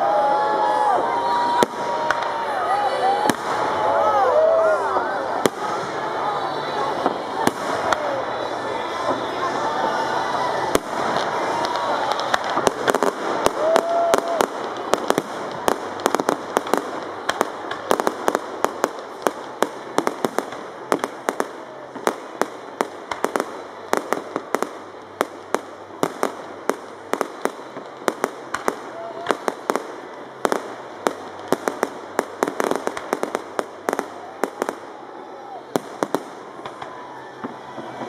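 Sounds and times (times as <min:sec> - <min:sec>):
fireworks bangs: 0:00.0 - 0:38.0.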